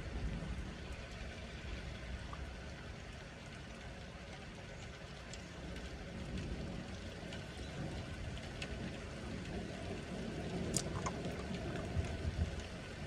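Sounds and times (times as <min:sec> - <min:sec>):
low uneven thunder rumble: 0:00.0 - 0:13.0
steady rain falling: 0:00.0 - 0:13.0.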